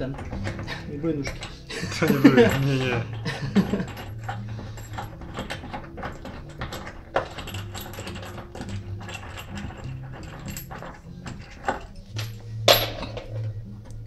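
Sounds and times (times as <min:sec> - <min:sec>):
small metallic clicks and rattling: 0:00.0 - 0:14.0.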